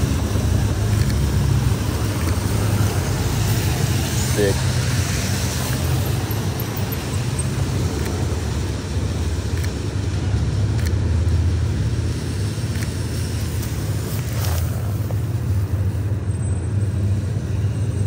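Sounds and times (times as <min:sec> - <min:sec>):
city traffic rumble: 0:00.0 - 0:18.0.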